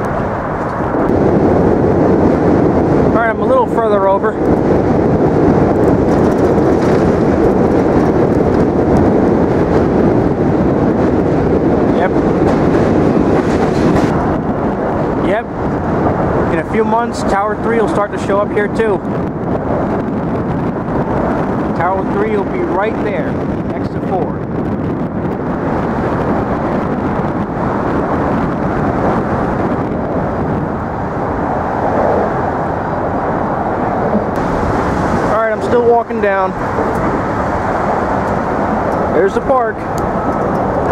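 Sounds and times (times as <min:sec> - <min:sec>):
traffic on a bridge: 0:00.0 - 0:40.9
wind on microphone: 0:00.0 - 0:40.9.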